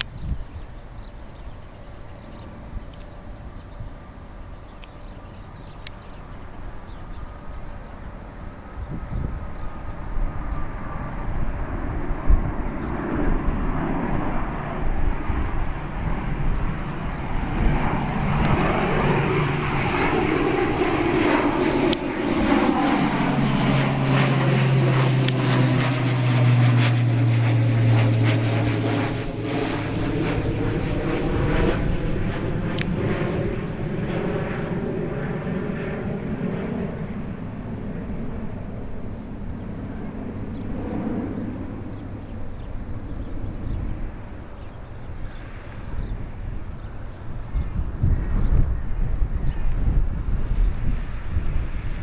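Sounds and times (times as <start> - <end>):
wind buffeting microphone: 0.0 - 26.6, 27.2 - 52.0
propeller plane passing overhead: 0.0 - 52.0.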